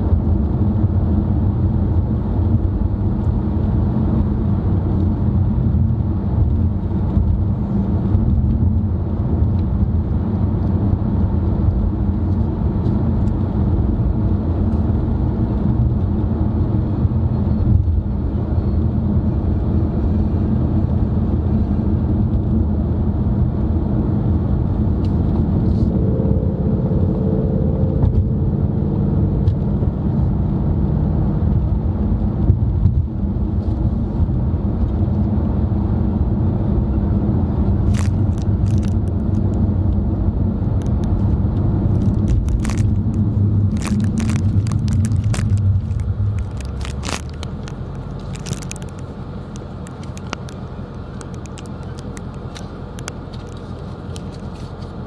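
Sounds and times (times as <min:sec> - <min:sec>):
car cabin road and engine rumble: 0:00.0 - 0:55.0.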